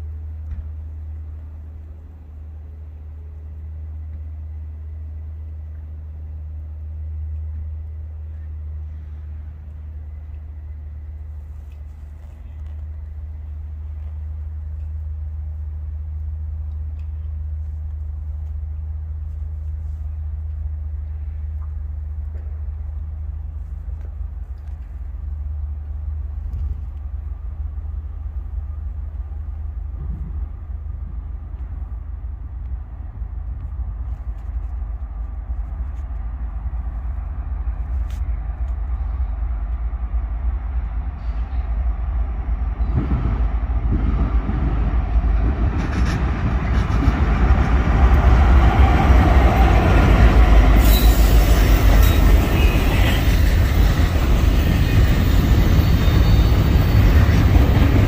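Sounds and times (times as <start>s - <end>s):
diesel locomotives rumbling: 0.0s - 58.0s.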